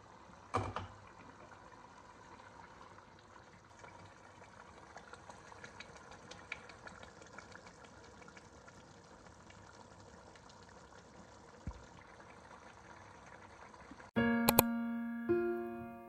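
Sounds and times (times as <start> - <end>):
liquid crackling and bubbling: 0.0 - 14.1.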